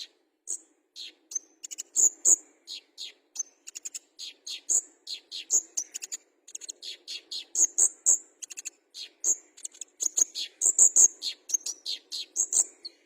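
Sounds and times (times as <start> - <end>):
bird chirping and trilling: 0.0 - 13.0.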